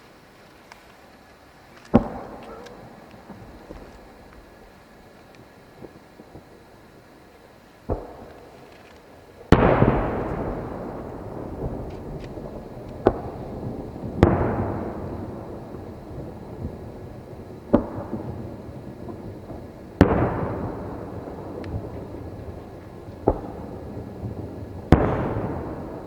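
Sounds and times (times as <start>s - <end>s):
rolling echo: 1.9s - 4.8s, 7.8s - 26.0s
fireworks booming: 1.9s - 26.0s.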